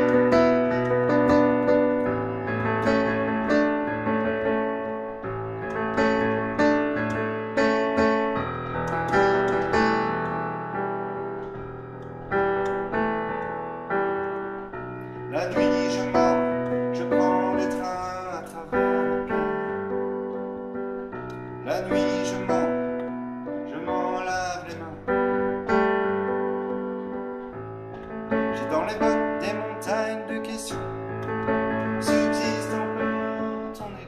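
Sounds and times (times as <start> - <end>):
digital piano slow chords: 0.0 - 34.0.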